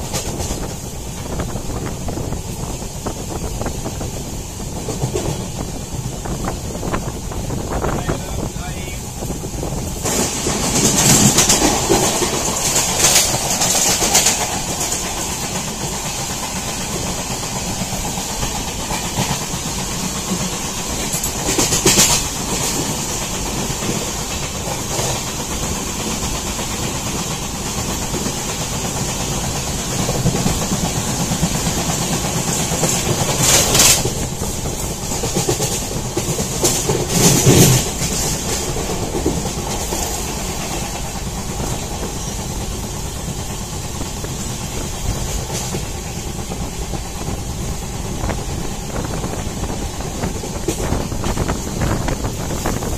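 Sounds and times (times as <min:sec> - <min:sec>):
train wheels clacking: 0:00.0 - 0:52.9
train wheels rumbling on track: 0:00.0 - 0:52.9.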